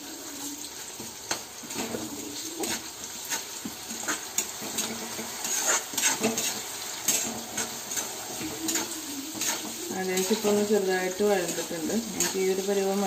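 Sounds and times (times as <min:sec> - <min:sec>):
frying sizzle: 0:00.0 - 0:13.0
spatula scraping metal pan: 0:01.3 - 0:12.9.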